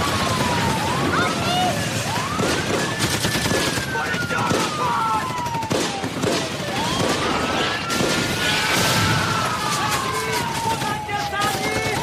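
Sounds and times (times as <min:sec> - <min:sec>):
rapid gunfire and blasts: 0:00.0 - 0:12.0
sirens wailing: 0:00.0 - 0:12.0.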